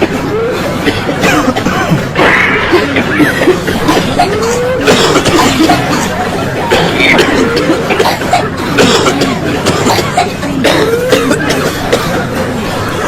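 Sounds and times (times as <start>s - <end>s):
person coughing: 0.8s - 12.4s.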